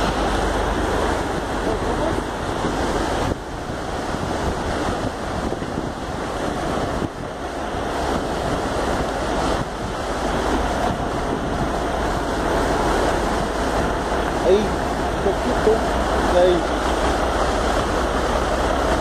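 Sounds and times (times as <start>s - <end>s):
river rapids rushing: 0.0s - 19.0s
wind buffeting microphone: 0.0s - 19.0s.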